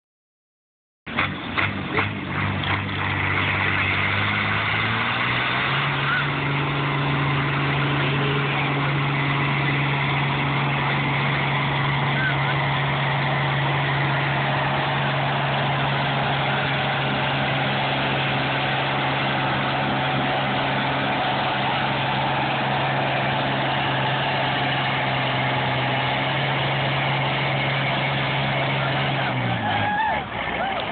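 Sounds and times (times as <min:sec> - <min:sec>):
tractor engine under load: 0:01.1 - 0:30.9.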